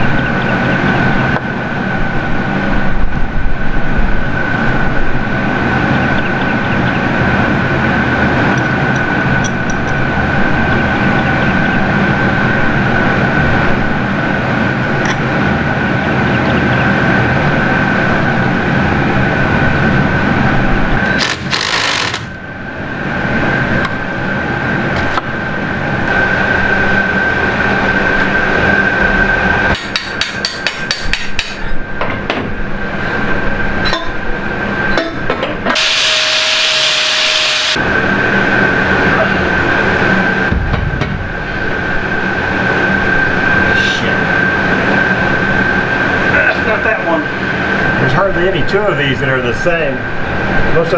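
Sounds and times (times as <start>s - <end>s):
steady mechanical hum: 0.0s - 50.9s.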